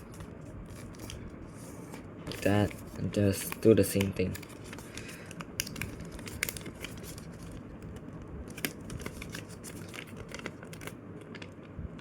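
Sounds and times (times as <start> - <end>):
paper crackling as folded: 0.0 - 11.8.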